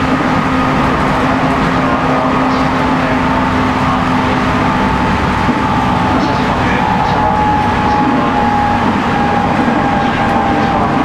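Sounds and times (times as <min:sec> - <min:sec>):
electric train motors whining: 0:00.0 - 0:11.0
loud wheel and rail noise: 0:00.0 - 0:11.0.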